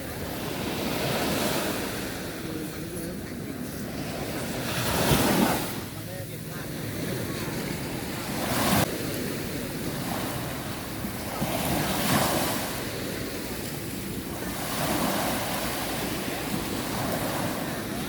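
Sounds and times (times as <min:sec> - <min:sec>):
sea waves washing ashore: 0:00.0 - 0:18.0
wind rumbling on microphone: 0:00.0 - 0:18.0.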